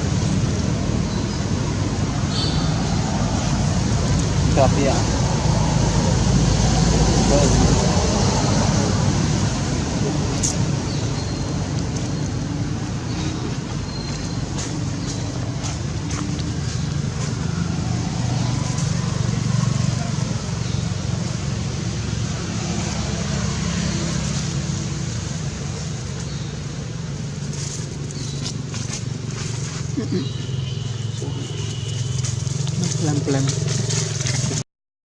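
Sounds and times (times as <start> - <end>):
low outdoor rumble: 0.0 - 34.6.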